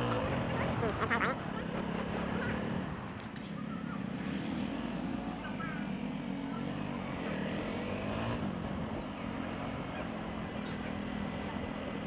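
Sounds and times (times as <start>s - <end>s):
road traffic engines droning: 0.0s - 12.0s.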